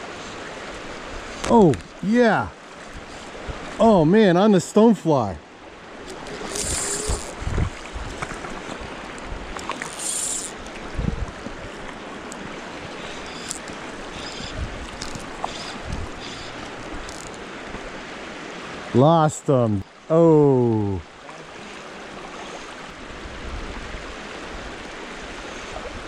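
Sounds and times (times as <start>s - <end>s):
fast-flowing creek water: 0.0s - 26.0s.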